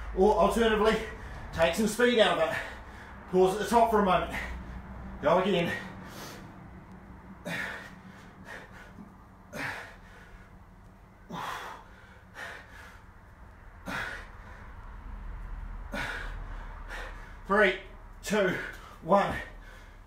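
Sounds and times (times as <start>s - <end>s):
man breathing hard: 0.8s - 1.6s, 2.3s - 3.3s, 4.1s - 20.0s.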